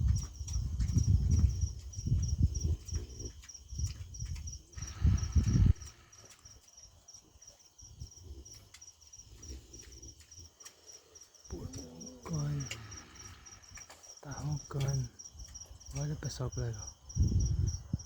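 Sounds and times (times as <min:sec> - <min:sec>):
pigs snoring: 0:00.0 - 0:15.2
high pulsing insect chirp: 0:00.0 - 0:18.0.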